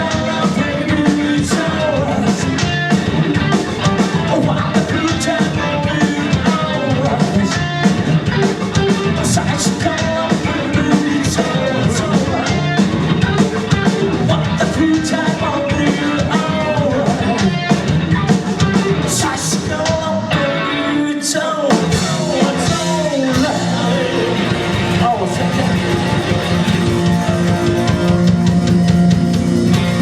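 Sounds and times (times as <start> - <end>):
drum kit: 0.0 - 20.5, 21.7 - 30.0
electric guitar: 0.0 - 30.0
person singing: 0.0 - 30.0.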